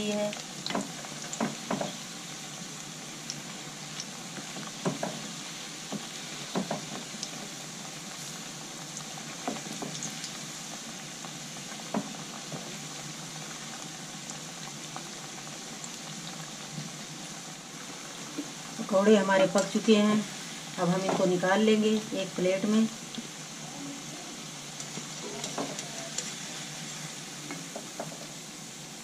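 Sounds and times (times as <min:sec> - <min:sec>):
deep-frying sizzle: 0:00.0 - 0:29.0.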